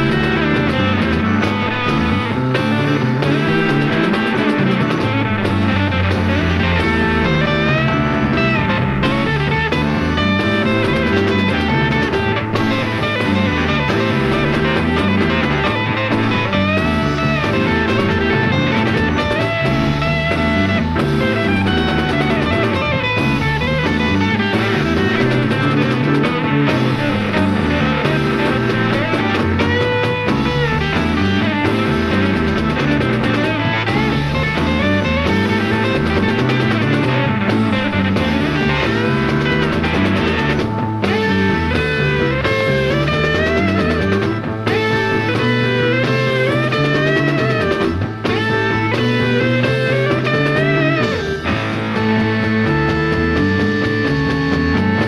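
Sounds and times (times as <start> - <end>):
rock music with guitar and drums: 0.0 - 55.0.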